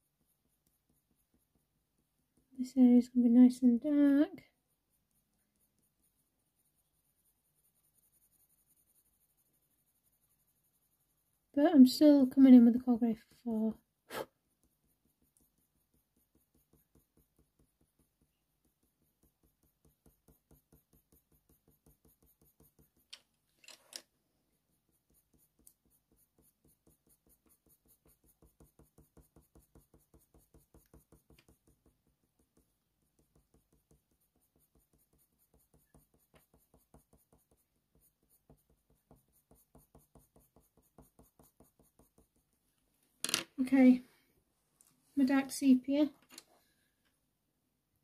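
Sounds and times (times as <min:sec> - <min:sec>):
coloured pencil scratching on paper: 0:00.0 - 0:23.2, 0:24.6 - 0:42.6.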